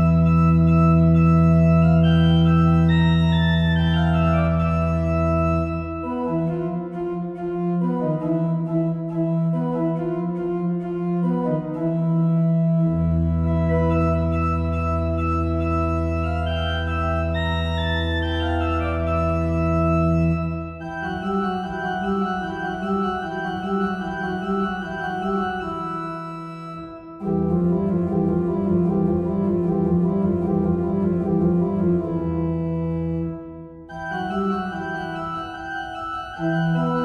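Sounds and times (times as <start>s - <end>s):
electronic organ playing chords: 0.0s - 37.0s.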